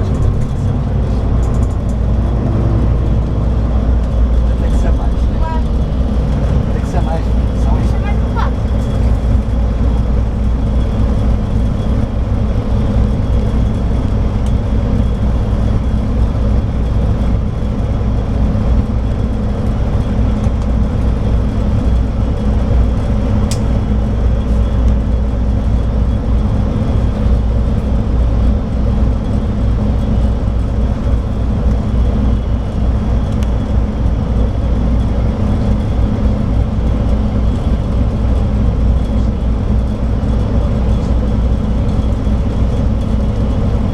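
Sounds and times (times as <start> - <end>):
bus diesel engine droning: 0.0 - 43.9
road noise: 0.0 - 43.9.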